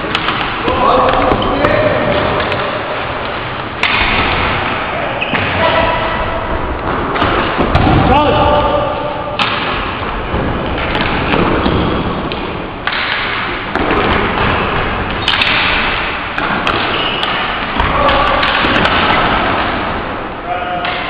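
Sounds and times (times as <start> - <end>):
echoing hall noise: 0.0 - 21.0
hockey sticks and ball clacking: 0.0 - 21.0.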